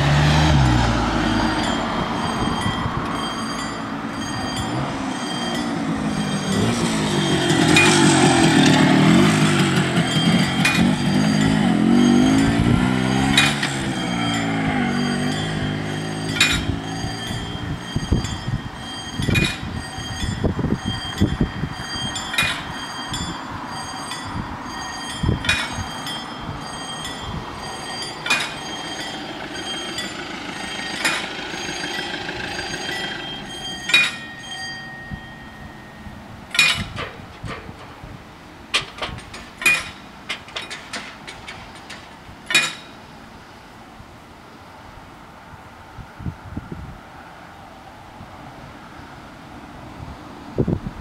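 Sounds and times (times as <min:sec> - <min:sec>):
level crossing warning bells: 0:00.0 - 0:45.1.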